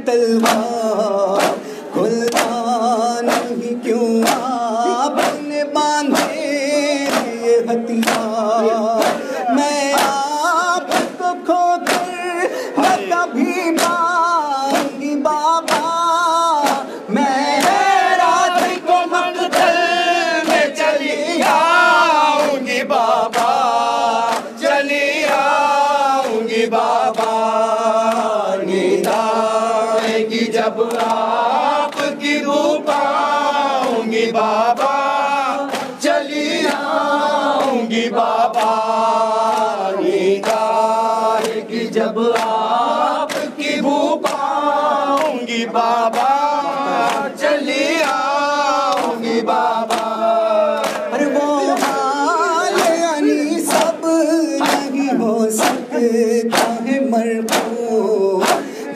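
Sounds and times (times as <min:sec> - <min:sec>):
men chanting in unison: 0:00.0 - 0:58.9
hand slaps on chests: 0:00.4 - 0:58.9.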